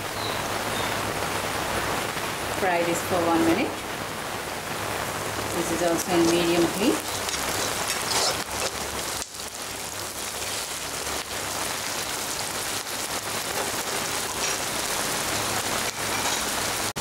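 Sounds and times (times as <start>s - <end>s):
onions sizzling in hot oil: 2.5s - 17.0s.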